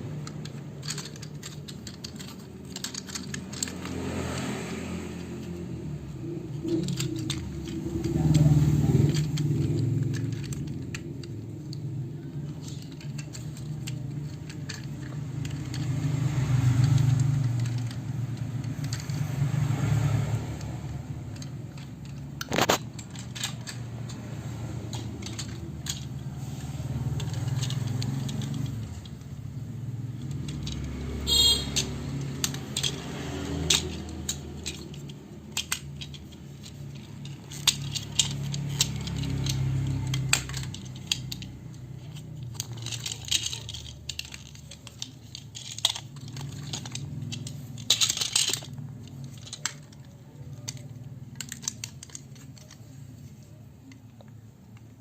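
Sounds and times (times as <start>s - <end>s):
plastic toy pieces clicking: 0.0s - 55.0s.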